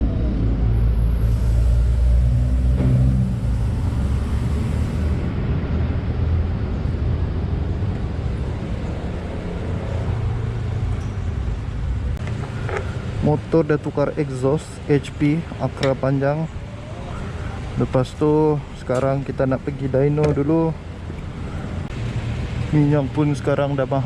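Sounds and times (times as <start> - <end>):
motorcycle engine and road rumble: 0.0 - 24.0.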